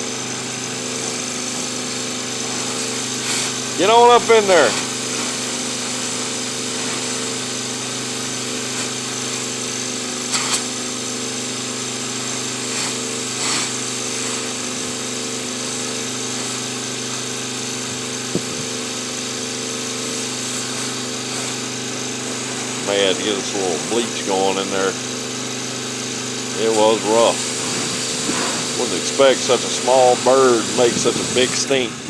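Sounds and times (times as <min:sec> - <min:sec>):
pressure washer humming: 0:00.0 - 0:32.0
short hissing blasts: 0:00.0 - 0:32.0.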